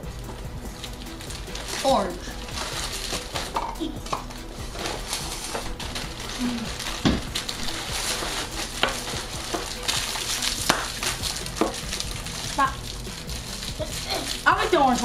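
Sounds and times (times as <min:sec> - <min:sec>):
plastic sleeves crinkling: 0:00.0 - 0:15.0.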